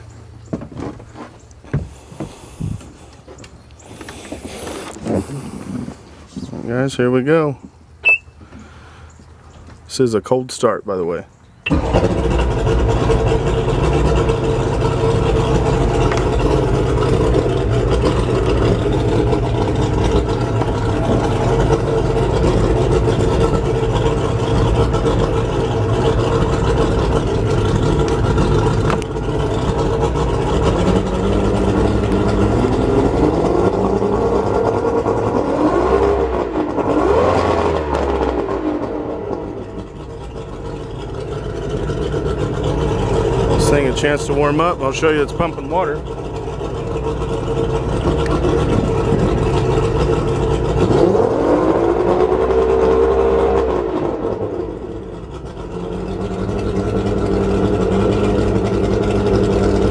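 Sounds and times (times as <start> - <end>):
outboard motor idling: 0.0 - 10.0, 10.9 - 59.9.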